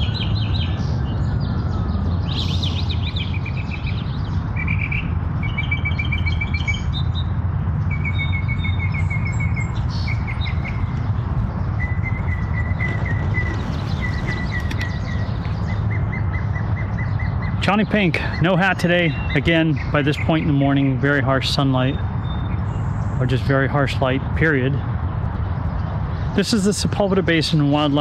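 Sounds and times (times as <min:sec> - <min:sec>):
songbirds chirping and trilling: 0:00.0 - 0:28.0
steady low rumble: 0:00.0 - 0:28.0.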